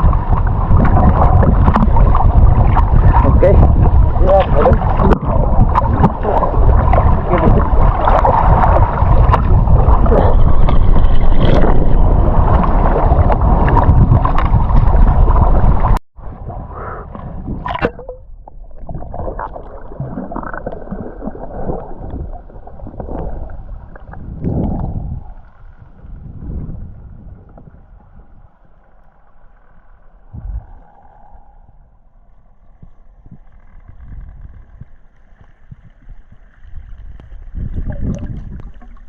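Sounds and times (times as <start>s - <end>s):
wind on microphone: 0.0s - 28.6s, 30.3s - 32.0s, 32.6s - 39.0s
muffled underwater gurgling: 0.0s - 28.7s, 30.2s - 39.0s
boat noise: 0.0s - 35.2s.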